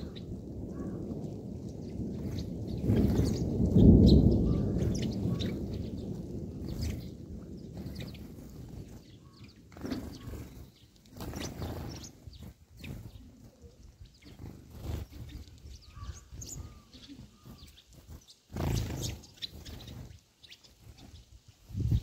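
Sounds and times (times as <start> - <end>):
low rumbling on microphone: 0.0 - 20.2
sparrows chirping: 0.0 - 22.0.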